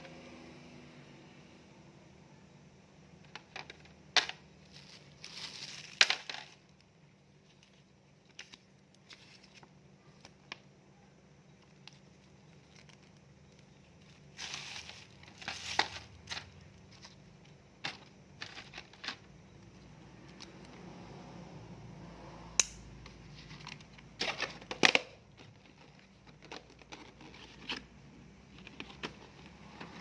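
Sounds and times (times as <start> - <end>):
plastic and cardboard crinkling: 3.2 - 20.8, 23.1 - 30.0.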